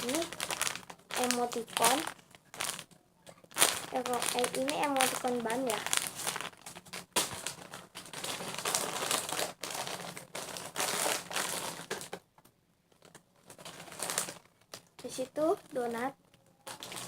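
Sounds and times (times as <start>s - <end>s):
squishy toys crinkling: 0.0s - 12.2s, 12.9s - 15.2s, 15.8s - 17.0s.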